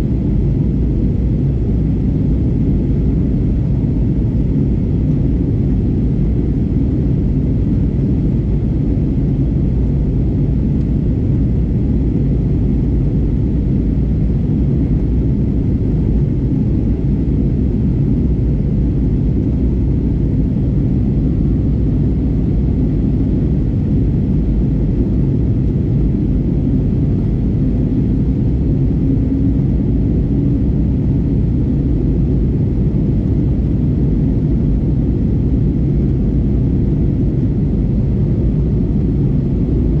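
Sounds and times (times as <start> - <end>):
jet engine rumble in cabin: 0.0 - 40.0.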